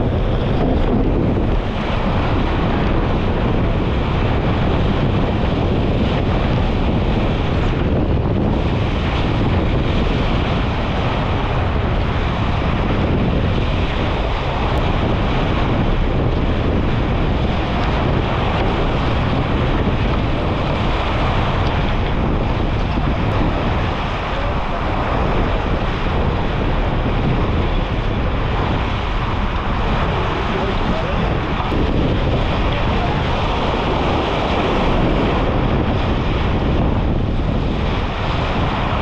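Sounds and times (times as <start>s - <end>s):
water rushing along hull: 0.0s - 39.0s
wind buffeting microphone: 0.0s - 39.0s.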